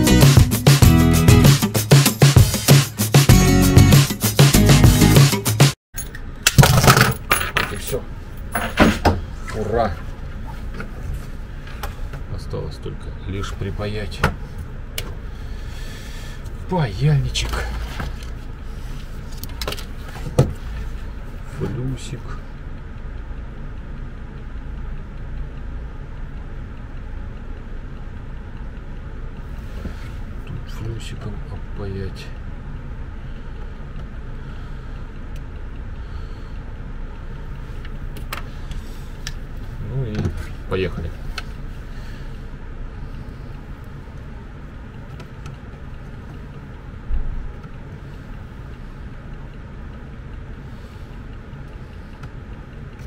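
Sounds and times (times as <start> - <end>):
low room rumble: 6.0 - 53.0.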